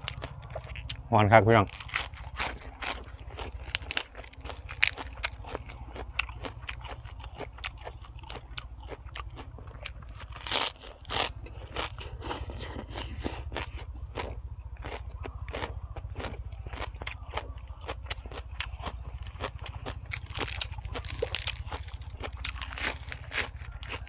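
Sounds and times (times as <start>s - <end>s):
person chewing crunchy food: 0.0s - 24.0s.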